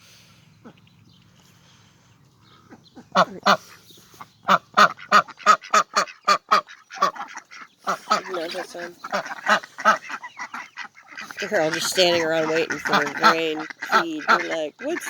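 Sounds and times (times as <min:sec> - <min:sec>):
ducks quacking: 0:01.6 - 0:15.0.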